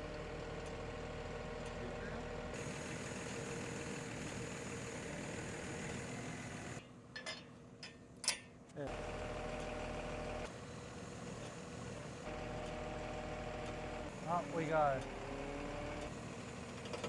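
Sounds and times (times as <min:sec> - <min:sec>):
diesel engine idling: 0:00.0 - 0:07.1, 0:08.8 - 0:17.0.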